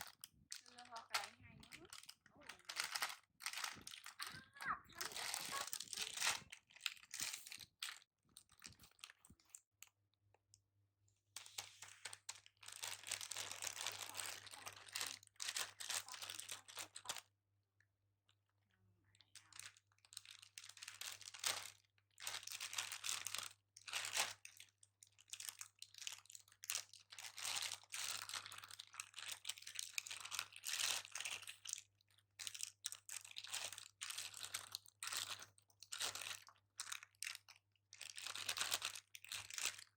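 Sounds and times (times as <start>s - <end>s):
plastic packaging crinkling: 0.0s - 9.6s, 11.5s - 17.2s, 19.4s - 24.6s, 25.2s - 39.9s.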